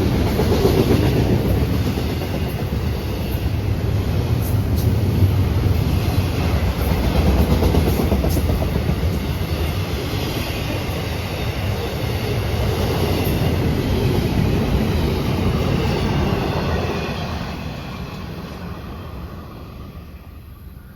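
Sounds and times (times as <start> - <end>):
freight train rolling past: 0.0 - 20.9.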